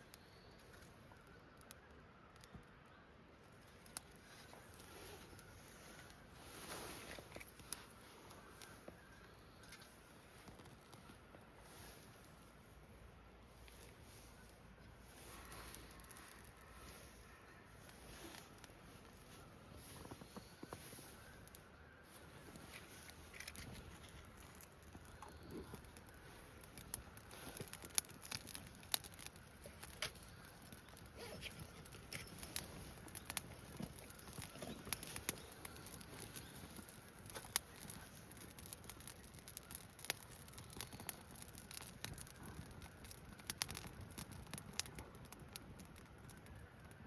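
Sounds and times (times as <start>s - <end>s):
wood fire crackling and popping: 0.0s - 47.0s.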